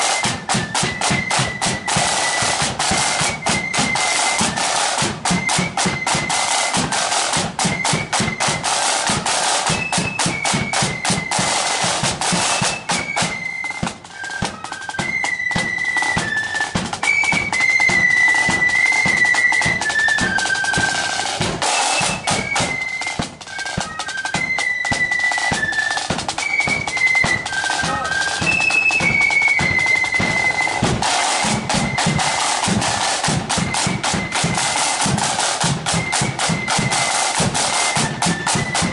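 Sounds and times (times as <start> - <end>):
high flute melody: 0.0 - 38.9
snare drums rattling: 0.0 - 38.9.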